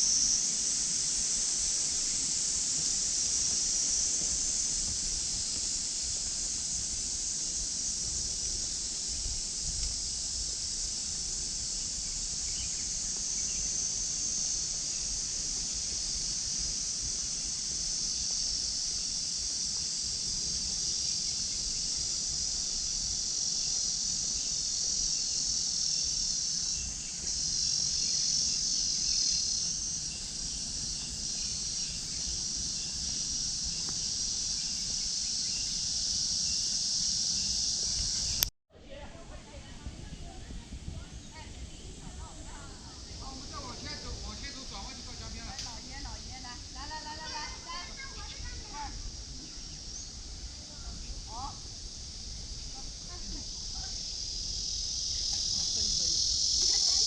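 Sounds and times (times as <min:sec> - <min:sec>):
insects buzzing shrilly: 0:00.0 - 0:38.5, 0:39.4 - 0:57.0.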